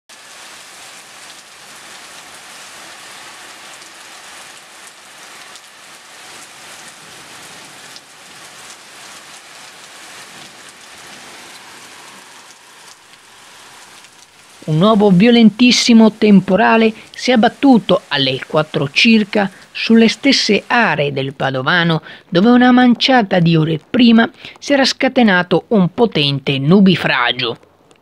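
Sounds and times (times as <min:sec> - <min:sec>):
heavy rain hissing: 0:00.1 - 0:27.6
scattered raindrops: 0:00.1 - 0:28.0.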